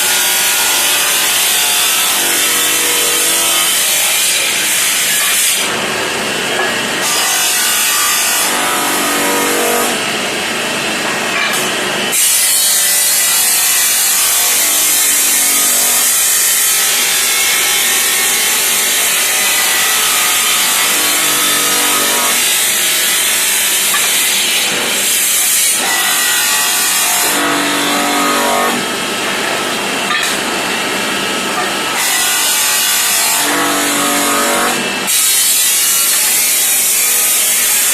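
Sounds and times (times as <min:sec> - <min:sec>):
tile cutting machine sawing: 0:00.0 - 0:37.9.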